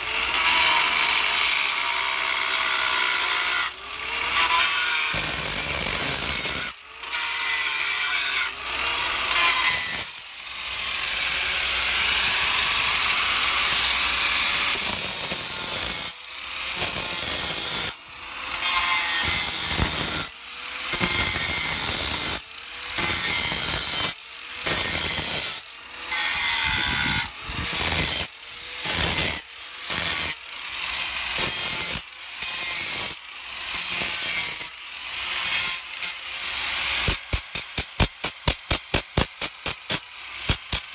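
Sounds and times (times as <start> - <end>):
angle grinder cutting stone: 0.0 - 40.9.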